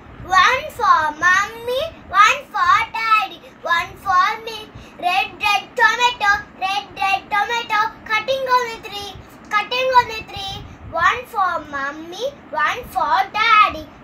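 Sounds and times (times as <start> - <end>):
girl singing: 0.2 - 14.0.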